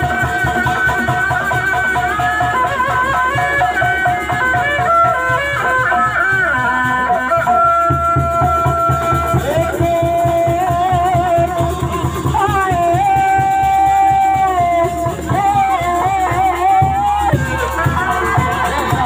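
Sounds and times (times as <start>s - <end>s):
reed shawm playing held notes: 0.0s - 19.0s
steady drumming: 0.0s - 19.0s.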